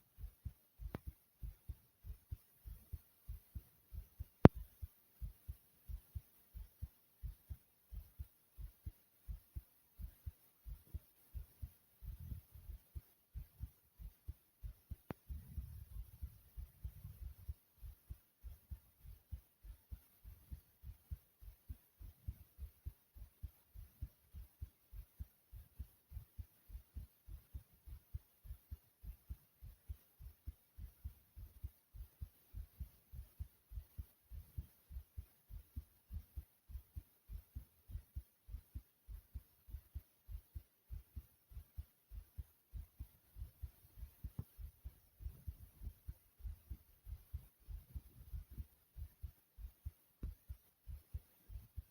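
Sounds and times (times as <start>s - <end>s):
heartbeat: 0.0s - 51.9s.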